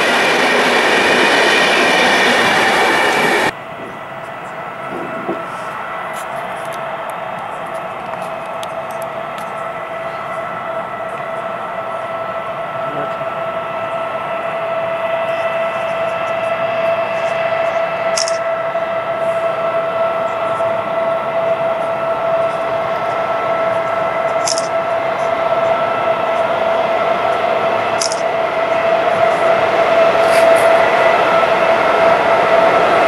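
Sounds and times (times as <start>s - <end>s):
electric locomotive whine: 0.0s - 33.0s.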